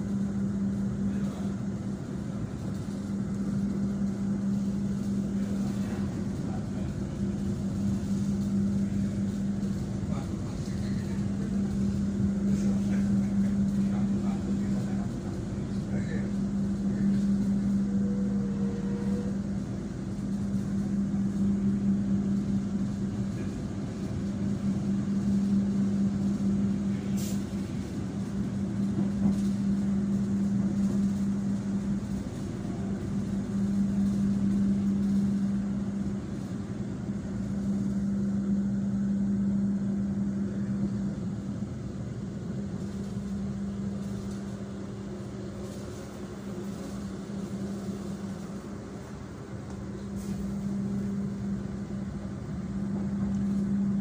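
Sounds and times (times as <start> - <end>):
train carriage running noise: 0.0 - 54.0.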